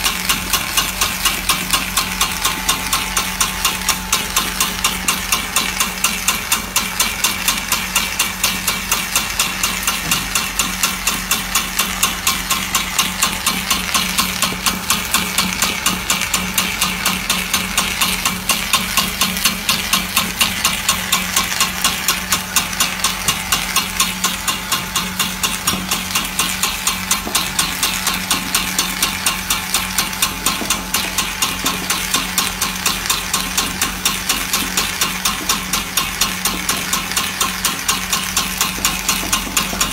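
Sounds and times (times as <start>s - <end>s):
motor hum: 0.0s - 39.9s
rapid popping of snacks: 0.0s - 39.9s.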